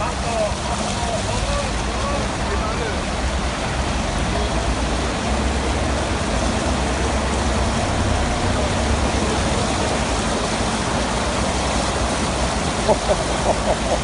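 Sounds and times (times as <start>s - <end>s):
heavy rain: 0.0s - 14.0s
running water: 0.0s - 14.0s.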